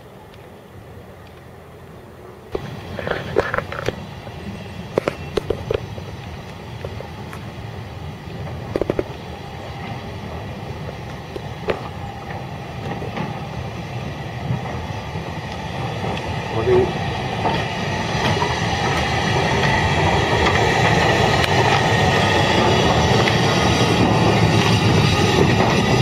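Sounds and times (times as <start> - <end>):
steam locomotive rumbling: 0.0 - 26.0.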